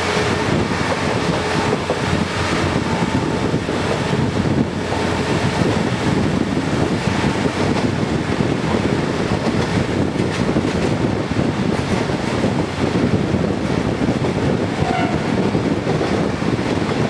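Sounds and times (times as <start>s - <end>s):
railcar engine and wheels rumbling: 0.0s - 17.0s
wind across microphone: 0.0s - 17.0s.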